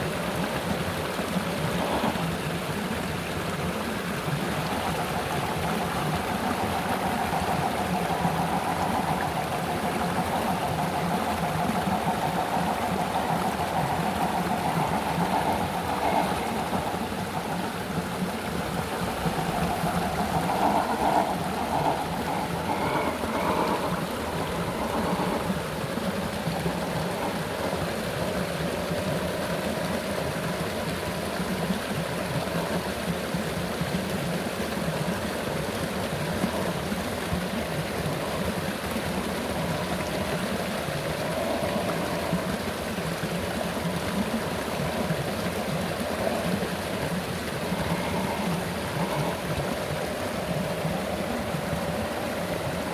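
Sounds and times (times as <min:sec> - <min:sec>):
flowing river rushing: 0:04.4 - 0:31.4, 0:34.8 - 0:52.9.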